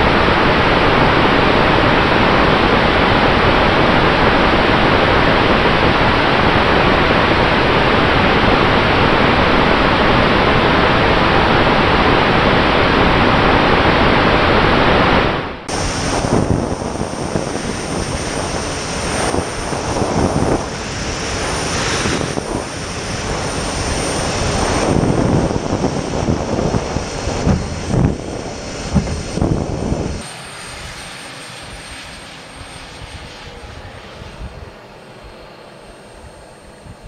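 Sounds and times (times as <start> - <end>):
wind buffeting microphone: 0.0 - 30.2, 31.6 - 35.5, 36.1 - 37.0
rush of air: 0.0 - 30.3
small jet engine whine: 0.0 - 37.0.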